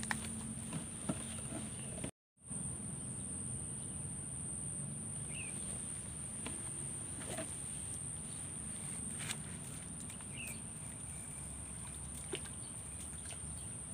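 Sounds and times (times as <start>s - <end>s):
low background rumble: 0.0s - 13.9s
insects trilling: 2.4s - 13.9s.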